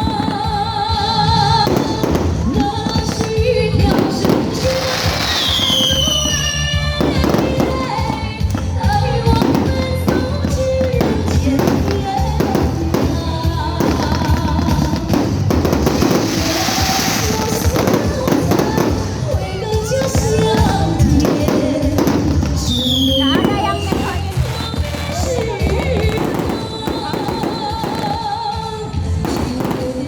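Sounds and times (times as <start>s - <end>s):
fireworks banging: 0.0s - 30.0s
loud music with singing: 0.0s - 30.0s.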